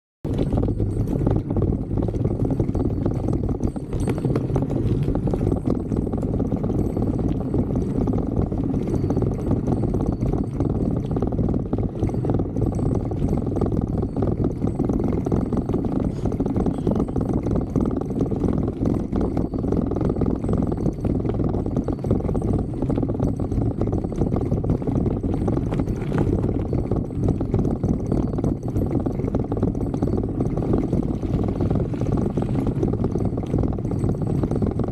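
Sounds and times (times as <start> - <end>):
bicycle tyres rumbling: 0.3 - 34.9.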